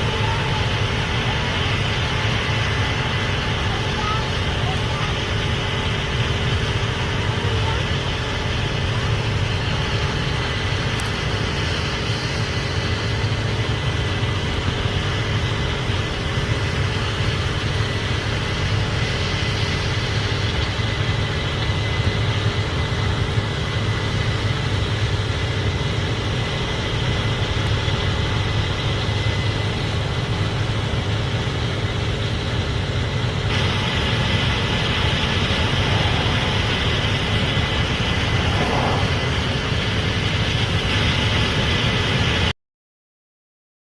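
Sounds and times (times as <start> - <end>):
combine harvester drone: 0.0 - 42.5
thin machine whine: 0.0 - 42.5.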